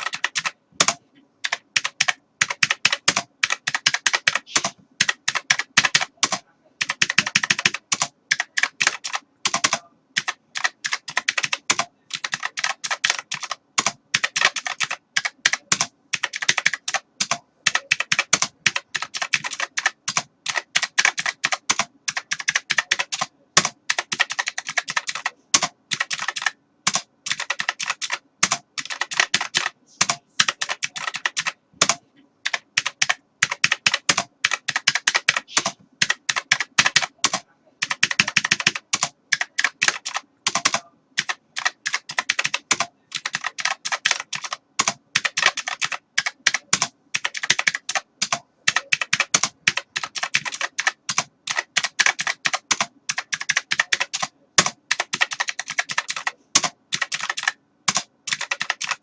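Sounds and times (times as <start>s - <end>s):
computer keyboard typing: 0.0s - 59.0s.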